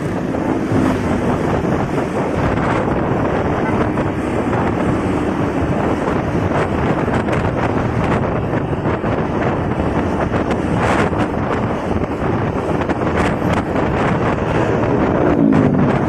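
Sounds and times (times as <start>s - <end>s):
motorcycle engine: 0.0s - 16.0s
traffic noise: 0.0s - 16.0s
wind buffeting microphone: 0.0s - 16.0s.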